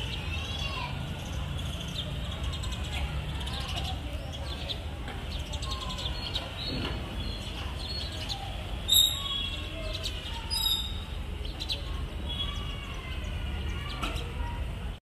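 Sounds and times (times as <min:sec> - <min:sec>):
sparrows chirping: 0:00.0 - 0:14.8.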